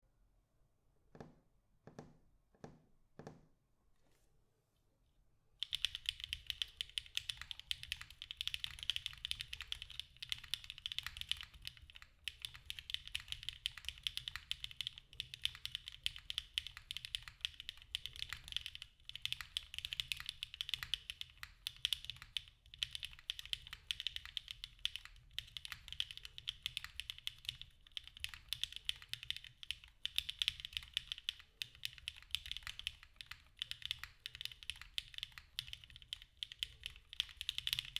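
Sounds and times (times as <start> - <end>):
mechanical keyboard typing: 5.6 - 37.9.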